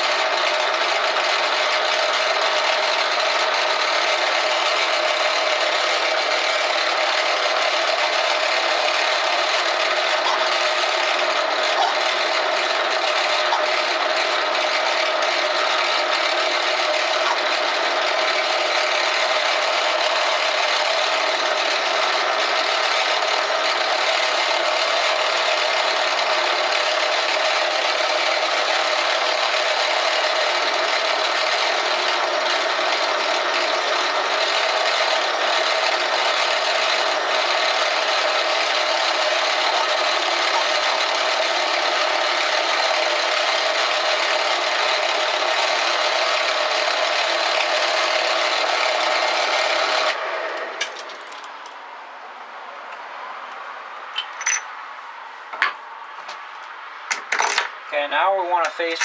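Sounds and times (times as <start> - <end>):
metal lathe cutting: 0.0 - 51.7.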